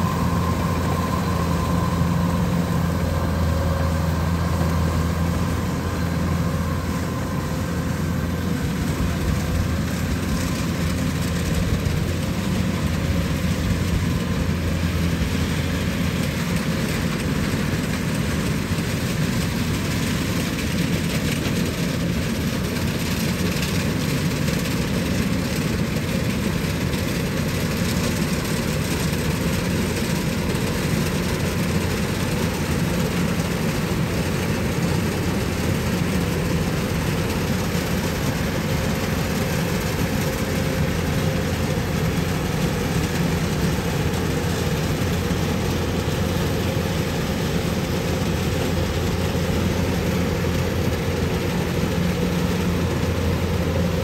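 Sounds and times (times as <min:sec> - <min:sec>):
combine harvester engine hum: 0:00.0 - 0:54.0.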